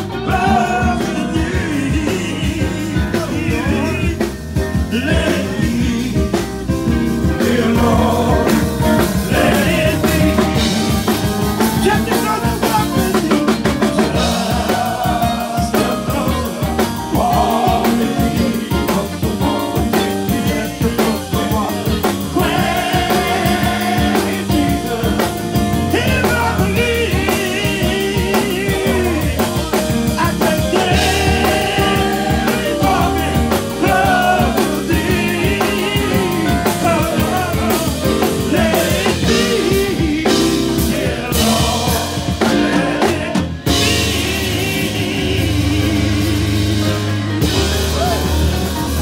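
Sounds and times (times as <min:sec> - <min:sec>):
lead vocalist singing: 0:00.0 - 0:49.0
live band with drums: 0:00.0 - 0:49.0
men's gospel choir singing: 0:00.0 - 0:49.0.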